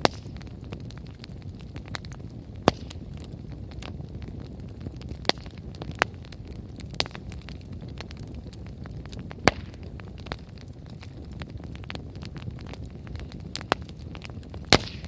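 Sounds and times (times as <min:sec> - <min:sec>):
fire popping: 0:00.0 - 0:15.0
low rumble of burning: 0:00.0 - 0:15.0
wood fire crackling: 0:00.0 - 0:15.0.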